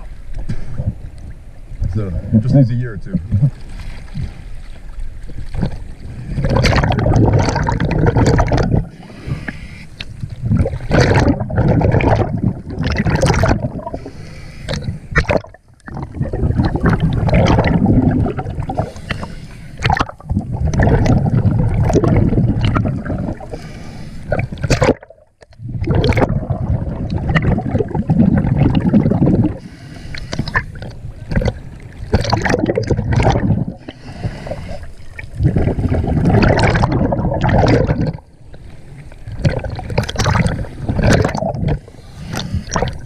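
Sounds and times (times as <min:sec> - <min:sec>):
water sloshing and gurgling: 0:00.0 - 0:43.0.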